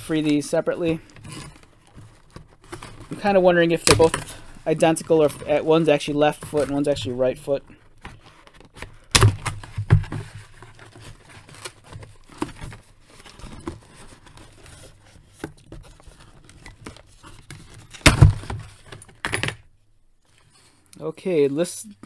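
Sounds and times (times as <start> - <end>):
packaging rustling and scraping: 0.0 - 19.4, 20.2 - 21.6.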